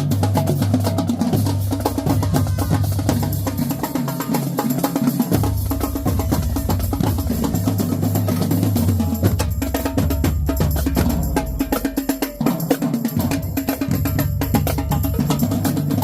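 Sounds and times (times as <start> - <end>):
bass drums: 0.0 - 16.0.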